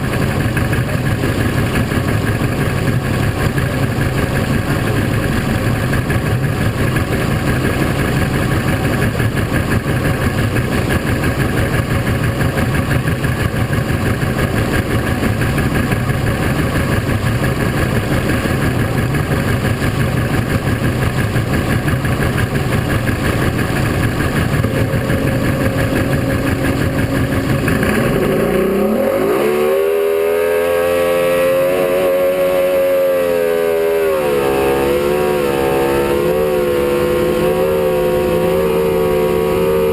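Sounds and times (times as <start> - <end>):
boat engine running: 0.0 - 39.9
rush of wind and water: 0.0 - 39.9.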